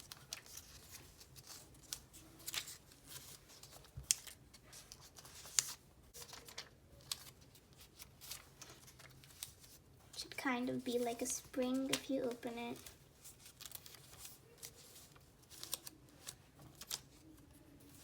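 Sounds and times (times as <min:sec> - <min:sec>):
paper rustling and crinkling: 0:00.0 - 0:18.0.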